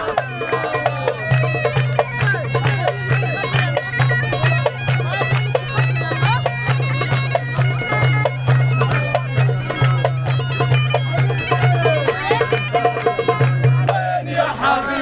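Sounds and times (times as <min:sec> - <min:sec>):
frame drum beat: 0:00.0 - 0:14.4
bagpipe playing dance tune: 0:00.0 - 0:14.8.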